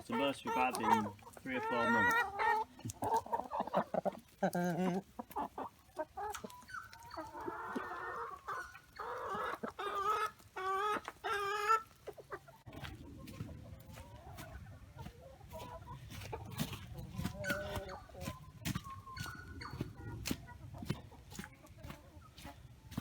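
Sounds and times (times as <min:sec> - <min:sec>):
hens clucking and squawking: 0:00.0 - 0:23.0.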